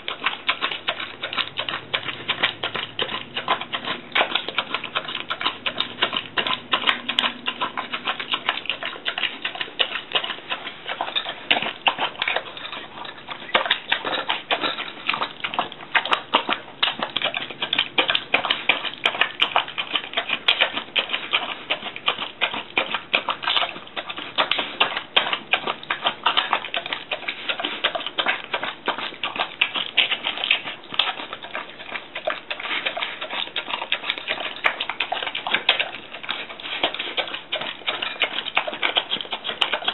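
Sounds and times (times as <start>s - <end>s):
dog wet chewing and smacking: 0.0s - 39.9s.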